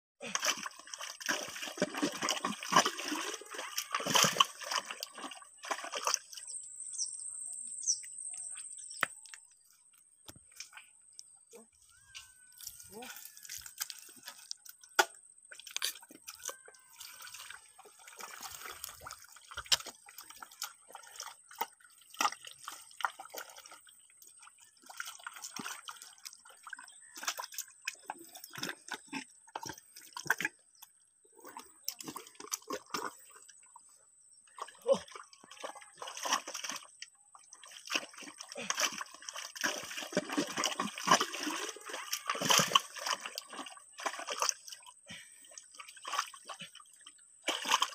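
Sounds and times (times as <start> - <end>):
mud squelching and water sloshing: 0.2 - 6.6, 8.5 - 47.9.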